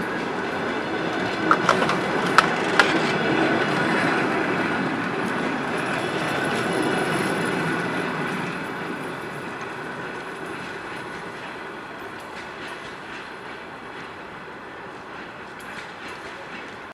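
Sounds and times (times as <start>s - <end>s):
train coaches rolling on rails: 0.0s - 16.9s.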